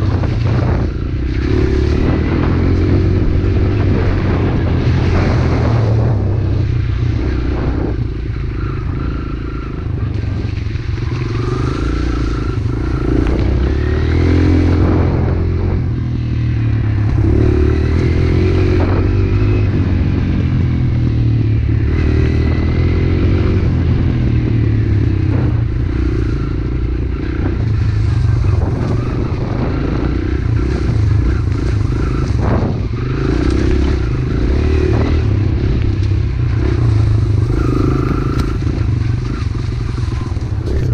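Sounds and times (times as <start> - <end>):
pit bike engine revving: 0.0 - 40.9.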